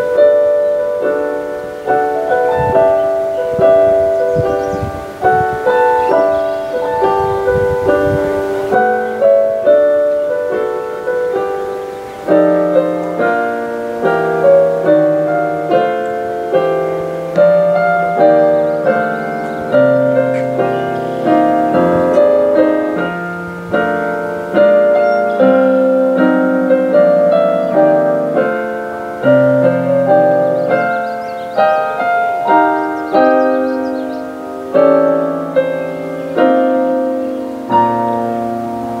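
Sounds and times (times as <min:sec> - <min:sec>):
slow piano chords: 0:00.0 - 0:39.0.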